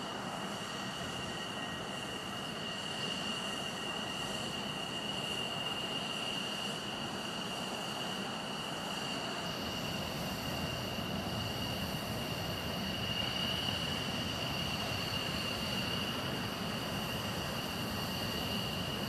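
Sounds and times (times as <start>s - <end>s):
jet engine whine: 0.0s - 19.0s.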